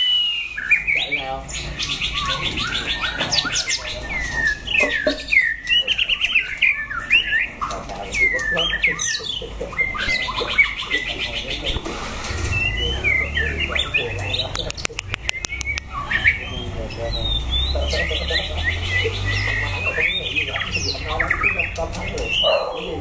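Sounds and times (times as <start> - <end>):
birds singing whistles: 0.0 - 23.0
fast rattling bird trills: 0.0 - 23.0.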